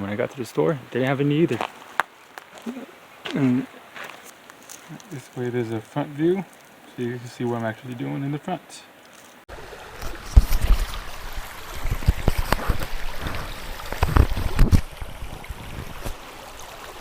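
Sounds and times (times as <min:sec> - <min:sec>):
creek water running: 0:00.0 - 0:17.0.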